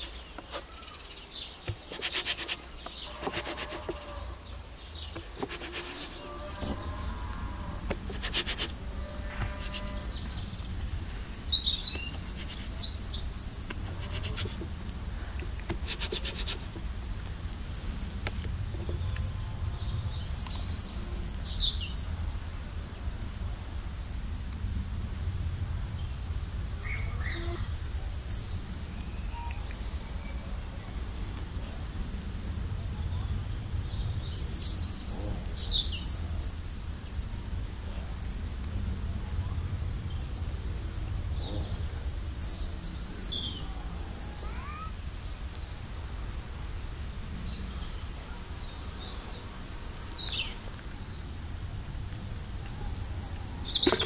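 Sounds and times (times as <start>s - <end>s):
small birds chirping: 0.0s - 54.0s
low background rumble: 2.7s - 53.8s.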